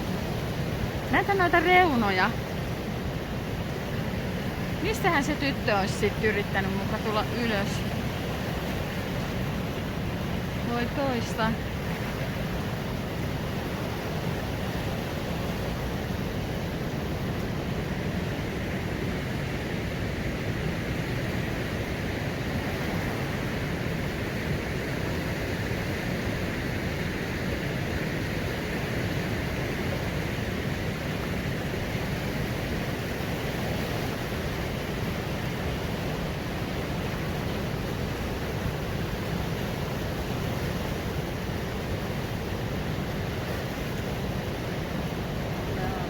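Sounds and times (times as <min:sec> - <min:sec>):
river water rushing over rapids: 0:00.0 - 0:46.0.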